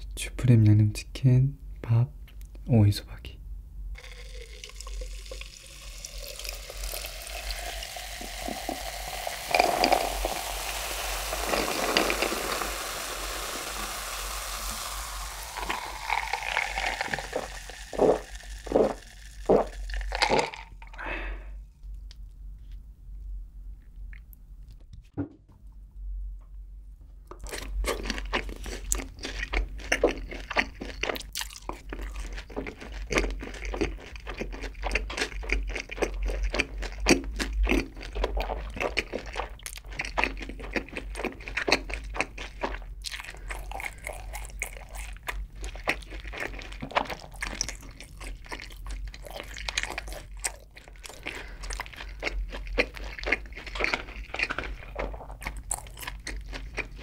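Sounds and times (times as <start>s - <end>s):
chewing crunchy fried chicken: 4.0s - 21.0s, 27.4s - 57.0s.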